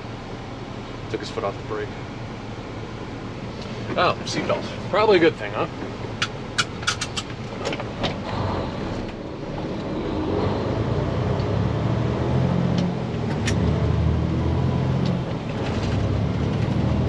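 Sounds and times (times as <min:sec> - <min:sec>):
truck diesel engine pulling: 0:00.0 - 0:17.0.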